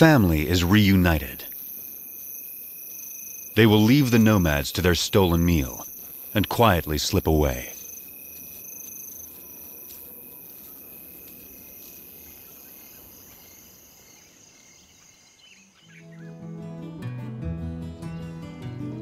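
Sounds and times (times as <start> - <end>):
insects chirring: 0.0 - 16.6.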